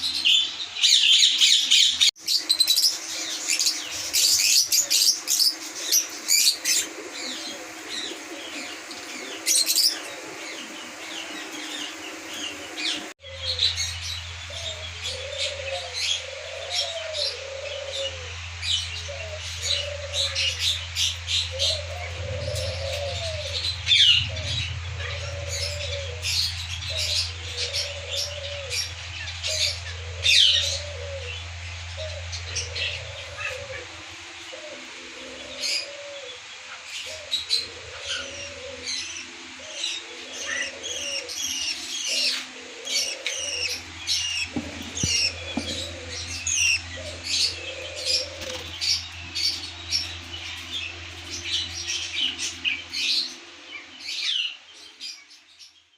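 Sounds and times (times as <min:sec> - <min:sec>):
steady low hum: 0:00.0 - 0:55.6
small birds chirping: 0:00.0 - 0:55.9
doves cooing: 0:02.7 - 0:54.4.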